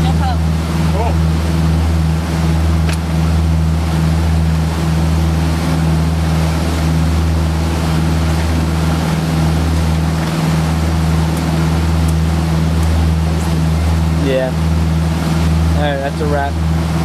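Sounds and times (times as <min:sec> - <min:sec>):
motorboat engine droning: 0:00.0 - 0:17.0
water rushing: 0:00.0 - 0:17.0
wind: 0:00.0 - 0:17.0.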